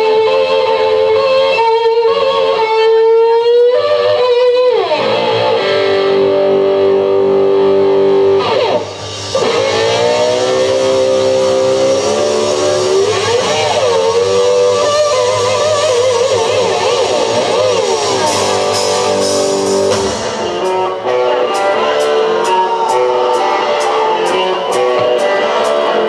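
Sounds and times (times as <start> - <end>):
slide guitar sustained notes: 0.0 - 26.0.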